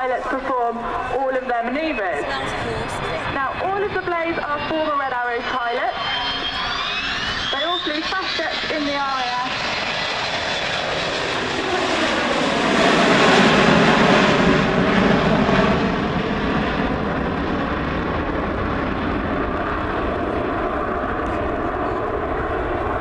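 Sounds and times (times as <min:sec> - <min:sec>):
jet engines passing overhead: 0:00.0 - 0:23.0.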